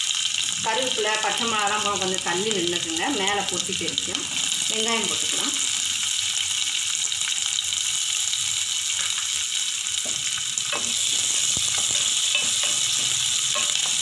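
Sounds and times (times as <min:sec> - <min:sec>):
shallots sizzling in hot oil: 0:00.0 - 0:14.0.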